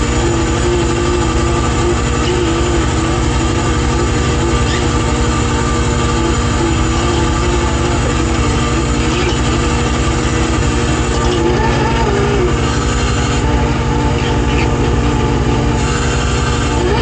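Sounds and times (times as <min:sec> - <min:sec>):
boat engine and deck machinery: 0:00.0 - 0:17.0.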